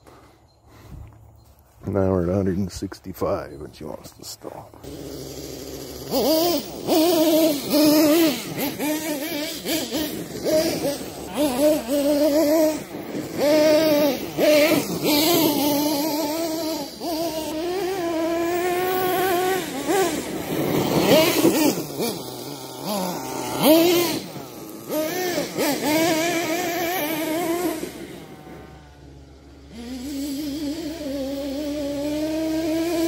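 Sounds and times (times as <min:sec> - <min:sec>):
model truck engine revving: 0:03.9 - 0:33.0.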